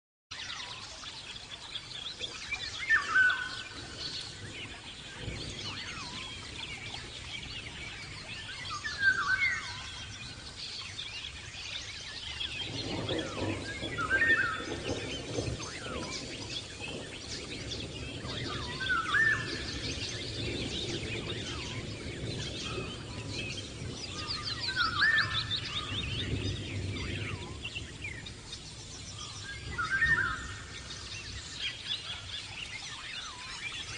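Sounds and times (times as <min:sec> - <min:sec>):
faint twittering chirps: 0:00.3 - 0:33.9.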